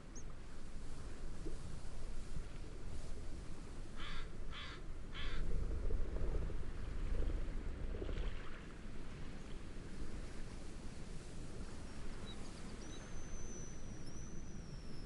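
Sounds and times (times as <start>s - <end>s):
wind and waves rushing: 0.5s - 13.2s.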